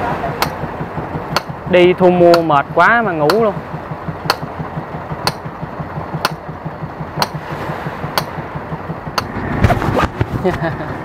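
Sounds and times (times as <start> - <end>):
boat engine throbbing: 0.0 - 11.0
sharp ticks: 0.4 - 9.3.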